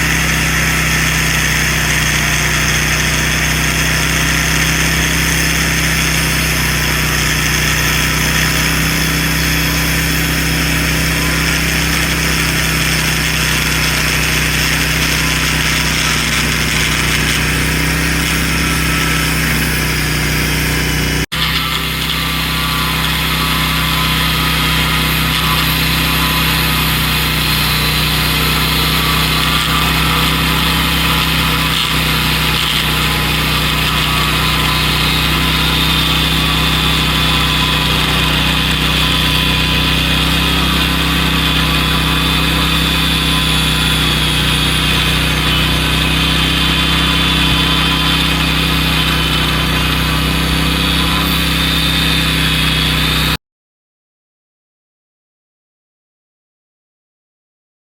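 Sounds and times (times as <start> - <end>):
small engine idling: 0.0 - 53.4.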